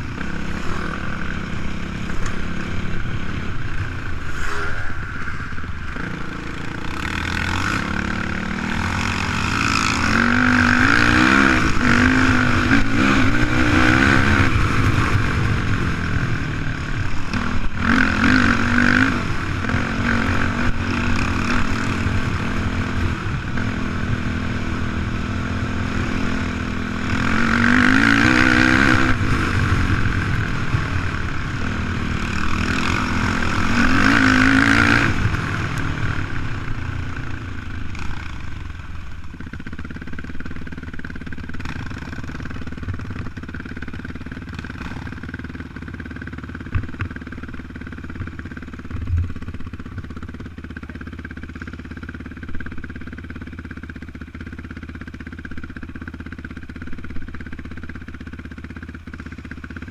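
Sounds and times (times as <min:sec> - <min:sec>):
quad engine revving: 0:00.0 - 0:53.5.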